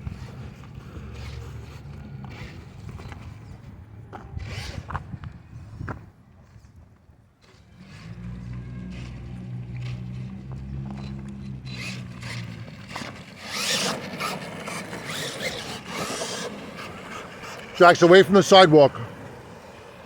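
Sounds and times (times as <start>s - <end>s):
toy truck motor hum: 0.0s - 3.8s, 7.4s - 20.0s
tyres scraping over ground: 0.0s - 20.0s.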